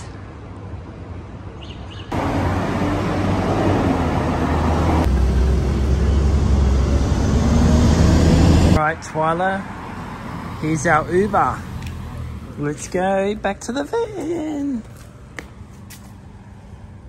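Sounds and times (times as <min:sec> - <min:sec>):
cars passing: 0:02.1 - 0:17.0.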